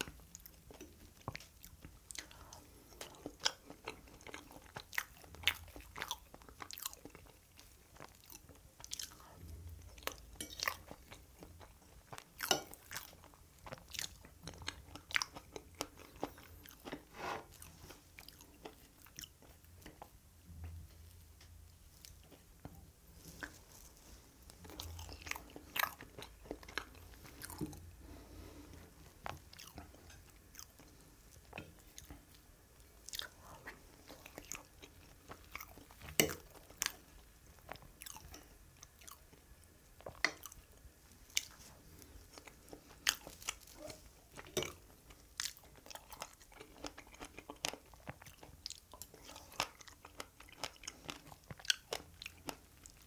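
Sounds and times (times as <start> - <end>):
chewing and biting cake: 0.0 - 20.1, 24.5 - 32.4, 33.0 - 39.4, 40.0 - 53.0.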